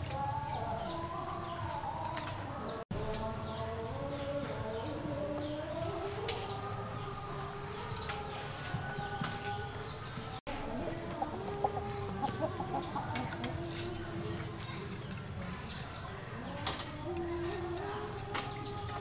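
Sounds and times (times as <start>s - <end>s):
chicken clucking: 0.0s - 19.0s
small birds chirping: 0.0s - 19.0s.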